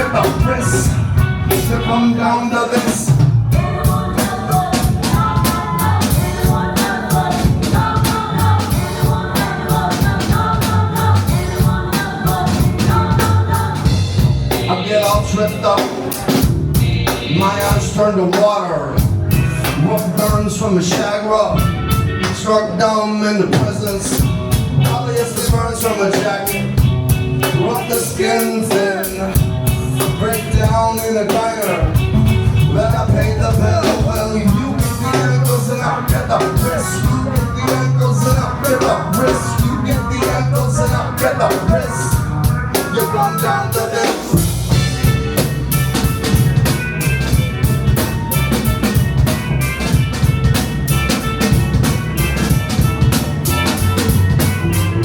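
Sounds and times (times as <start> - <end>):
drum kit beat: 0.0 - 22.5, 23.5 - 55.0
bass guitar: 0.0 - 55.0
live rock band playing: 0.0 - 55.0.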